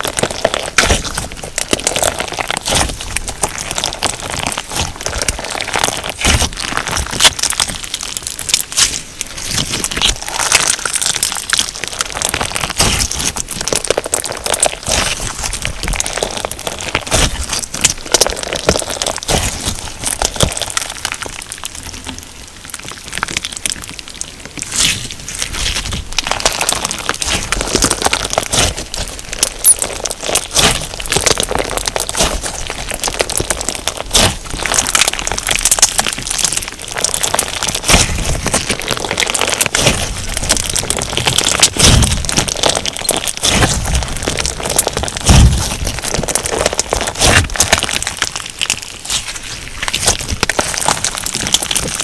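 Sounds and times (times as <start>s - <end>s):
crunchy slime squeezed by hand: 0.0s - 52.0s.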